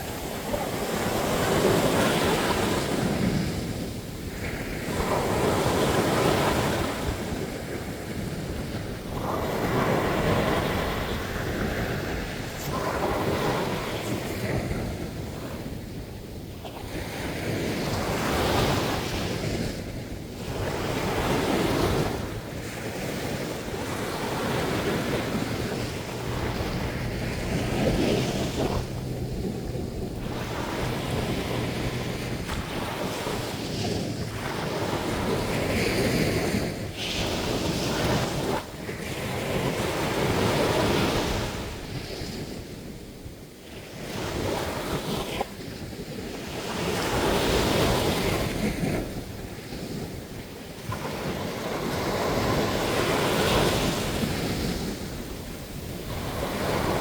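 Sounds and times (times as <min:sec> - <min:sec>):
waves breaking on beach: 0:00.0 - 0:57.0
wind buffeting microphone: 0:00.0 - 0:57.0.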